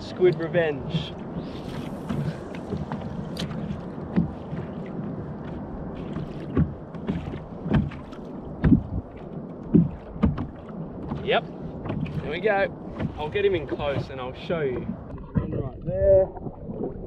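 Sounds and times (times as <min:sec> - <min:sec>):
water lapping against kayak hull: 0:00.0 - 0:17.0
sharp slaps on hull: 0:00.3 - 0:15.6.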